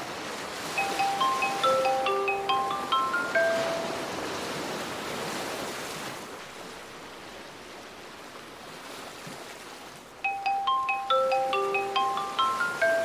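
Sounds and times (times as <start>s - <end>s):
ocean surf washing in: 0.0s - 9.2s, 10.2s - 13.0s.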